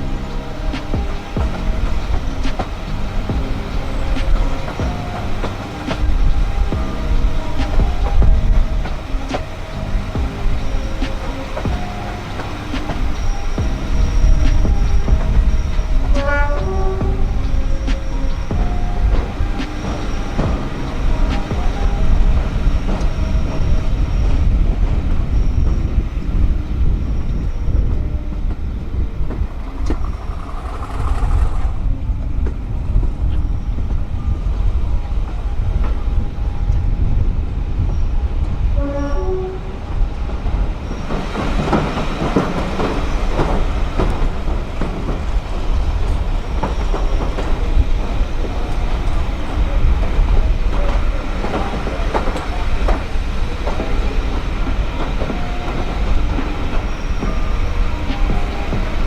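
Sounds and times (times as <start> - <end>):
train carriages rumbling: 0.0 - 59.0
wheels clattering over rail joints: 0.0 - 59.0.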